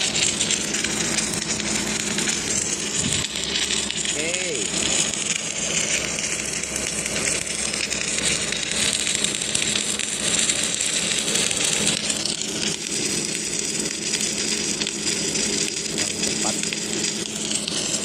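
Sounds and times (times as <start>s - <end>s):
welding arc crackling hiss: 0.0s - 18.0s
welding equipment low hum: 0.0s - 18.0s.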